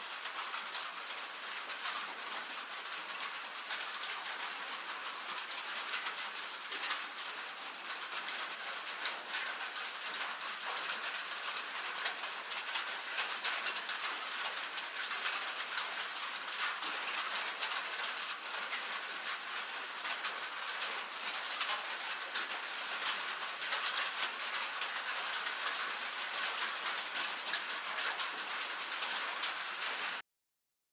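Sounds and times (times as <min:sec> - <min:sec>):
rain on a metal roof: 0:00.0 - 0:30.2.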